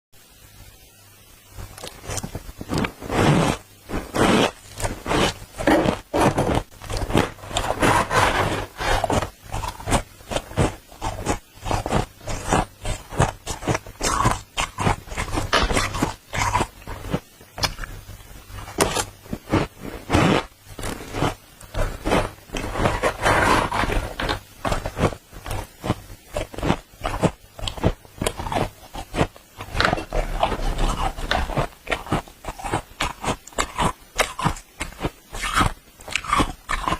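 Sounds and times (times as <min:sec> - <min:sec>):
frost crunching being chewed: 0:01.6 - 0:36.9.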